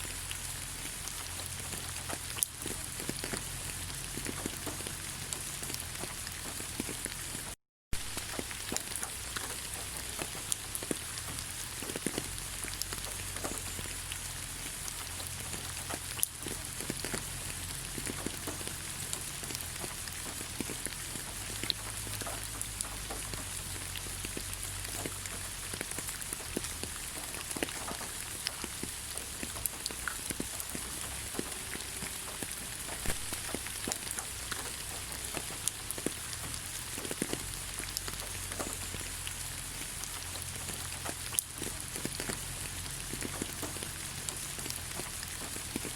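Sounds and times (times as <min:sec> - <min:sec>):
rain pattering on leaves: 0:00.0 - 0:45.9.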